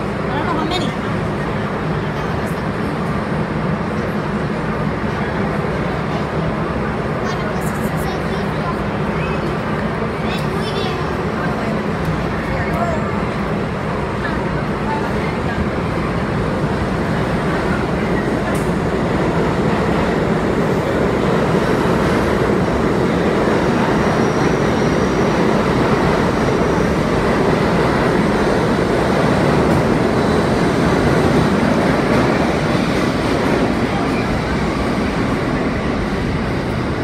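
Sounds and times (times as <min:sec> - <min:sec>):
subway train rumbling on rails: 0:00.0 - 0:37.0.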